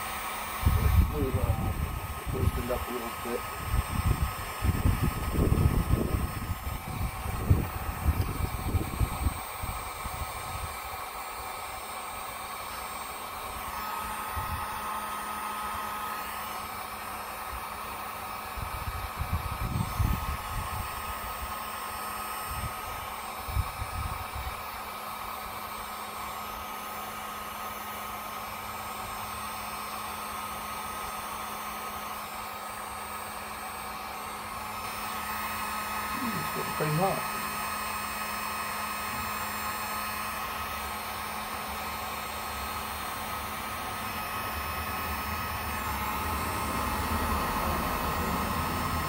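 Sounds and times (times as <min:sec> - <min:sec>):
heat gun blowing: 0:00.0 - 0:49.0.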